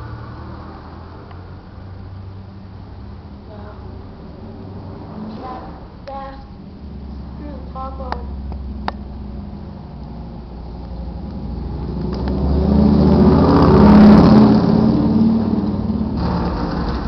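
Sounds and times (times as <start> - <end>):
car passing by: 0.0 - 3.2, 3.8 - 6.0, 8.4 - 17.0.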